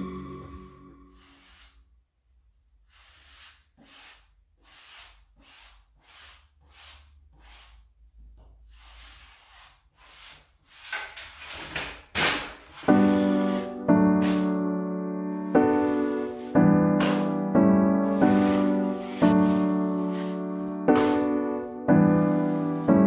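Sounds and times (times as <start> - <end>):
paper tape rubbing strokes: 1.1 - 1.9, 2.8 - 7.9, 8.6 - 11.4, 12.3 - 14.8, 15.5 - 23.0.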